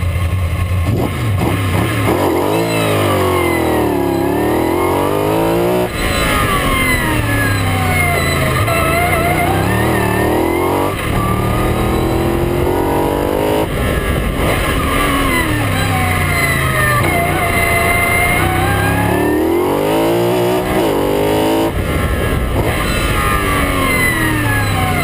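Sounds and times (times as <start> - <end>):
racing car engine revving: 0.8 - 25.0.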